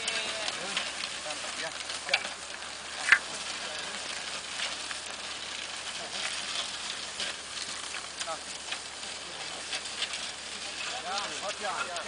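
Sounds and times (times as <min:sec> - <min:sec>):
faint rustles: 0:00.0 - 0:12.0
steady outdoor hiss: 0:00.0 - 0:12.0.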